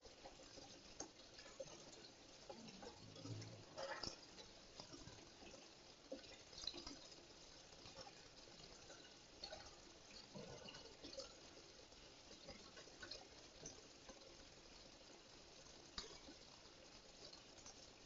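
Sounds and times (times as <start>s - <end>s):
faint steady hiss: 0.0s - 18.0s
soft ticks and clicks: 0.1s - 18.0s.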